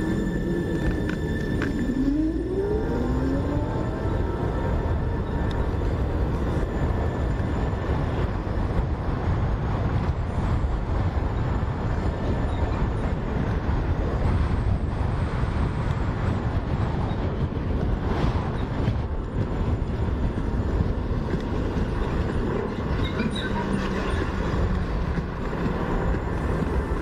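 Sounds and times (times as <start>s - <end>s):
vehicle engine and road rumble: 0.0s - 27.0s.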